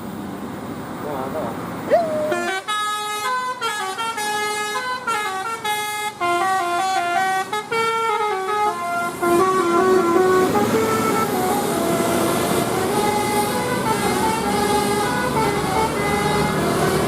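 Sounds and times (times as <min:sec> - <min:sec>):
multi-tone air horn melody: 0:02.2 - 0:17.0.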